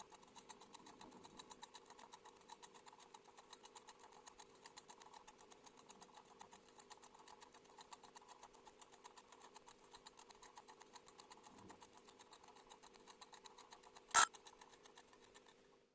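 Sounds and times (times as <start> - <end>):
kitchen timer ticking: 0.0 - 15.4.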